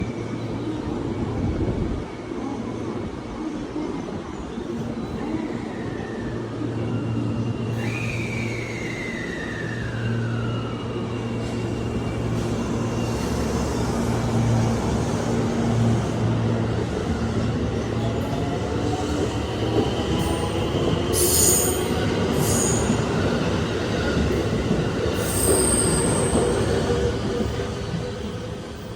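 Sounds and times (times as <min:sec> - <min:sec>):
rail noise: 0:00.0 - 0:28.9.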